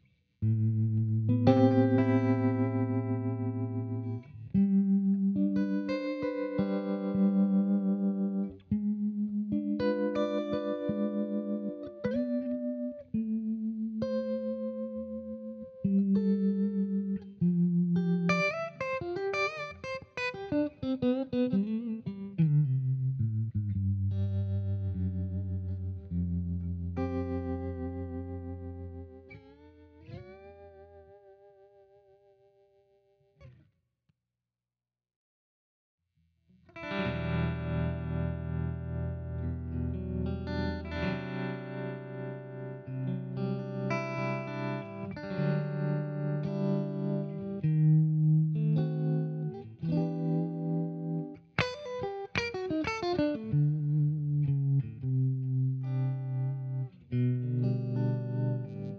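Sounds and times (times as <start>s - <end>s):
electric guitar chords with vibe effect: 0.0s - 32.6s, 36.6s - 58.9s.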